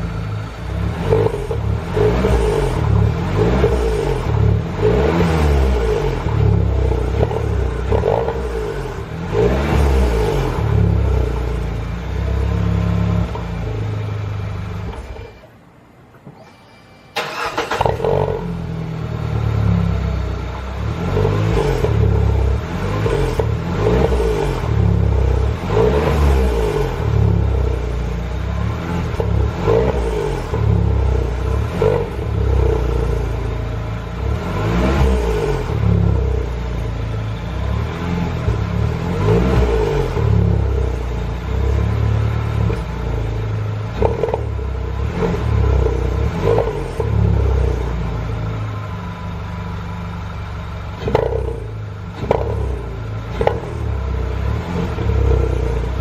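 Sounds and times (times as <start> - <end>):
petrol engine revving: 0.0 - 15.4, 17.1 - 56.0
strange engine noise: 0.0 - 16.5, 17.2 - 56.0.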